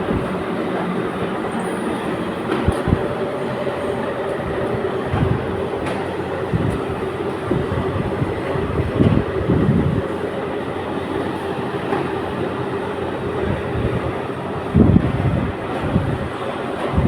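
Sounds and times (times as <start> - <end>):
continuous hum: 0.0 - 17.0
melting furnace drone: 0.0 - 17.0.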